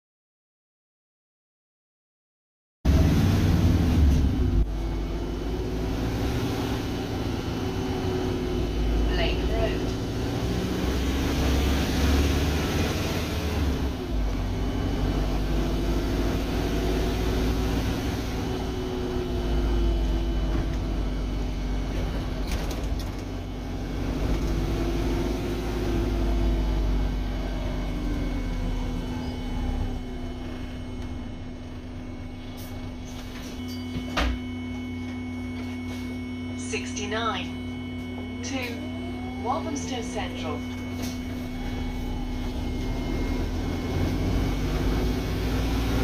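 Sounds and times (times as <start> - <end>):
bus engine running: 2.9 - 46.0.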